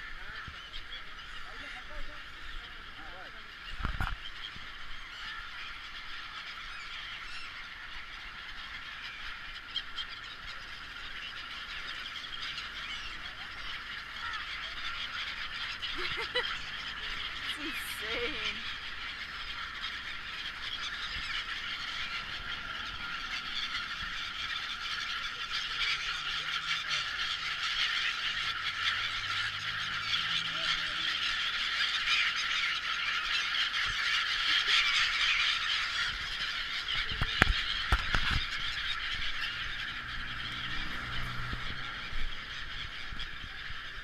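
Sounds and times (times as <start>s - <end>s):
flock of gulls calling: 0.0s - 44.0s.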